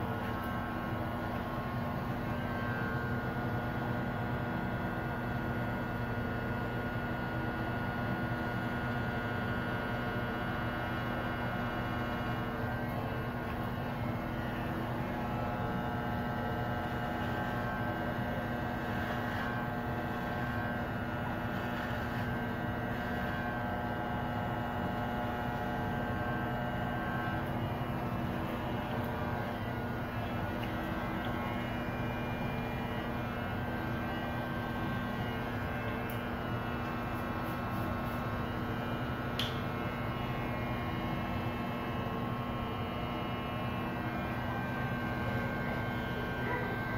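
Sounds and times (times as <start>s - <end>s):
electric hair clippers buzzing: 0.0s - 46.9s.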